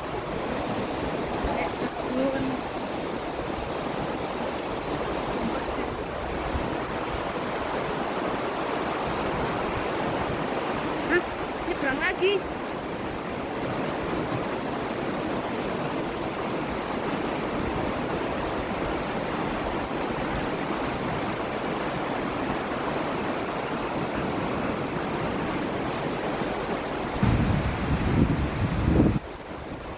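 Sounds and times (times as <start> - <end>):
waterfall and river rushing: 0.0 - 29.9.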